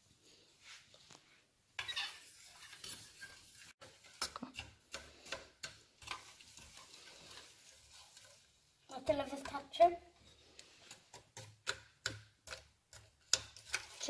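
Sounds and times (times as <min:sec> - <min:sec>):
spoon scraping metal pot: 0:01.8 - 0:14.0.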